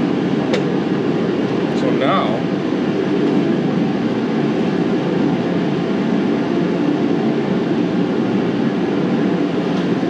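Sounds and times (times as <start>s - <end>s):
space heater running: 0.0s - 10.0s.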